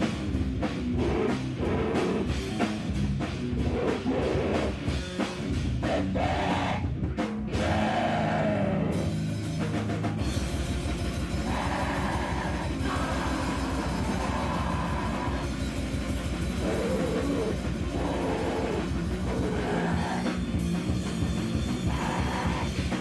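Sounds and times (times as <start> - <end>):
distorted guitar: 0.0 - 23.0
drum kit: 0.0 - 23.0
live rock band playing: 0.0 - 23.0.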